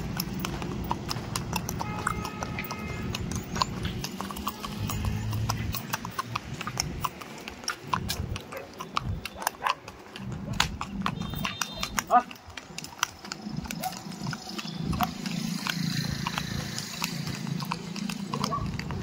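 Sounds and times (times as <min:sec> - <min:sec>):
horse hooves clip-clopping: 0:00.0 - 0:19.0.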